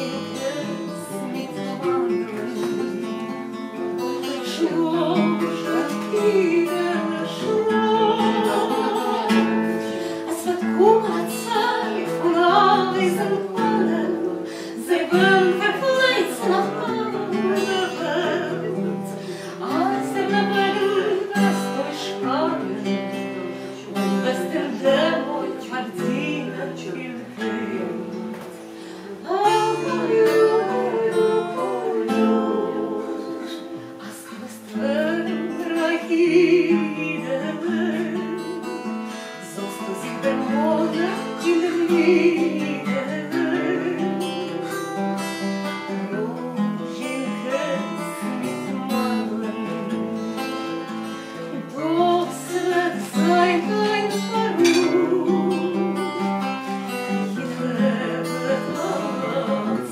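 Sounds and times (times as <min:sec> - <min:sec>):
acoustic guitar: 0:00.0 - 0:59.9
woman singing: 0:00.0 - 0:59.9.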